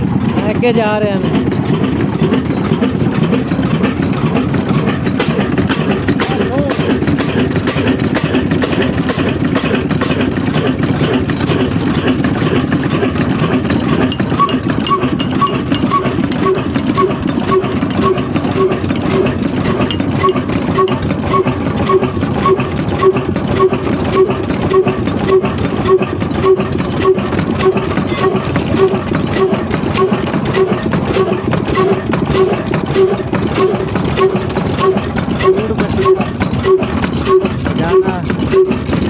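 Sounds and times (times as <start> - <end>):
stationary diesel engine running: 0.0 - 39.0.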